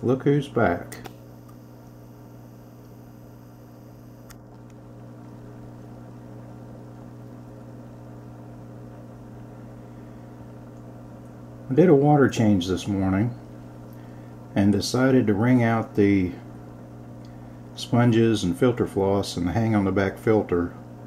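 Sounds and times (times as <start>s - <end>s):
aquarium filter motor hum: 0.0s - 21.0s.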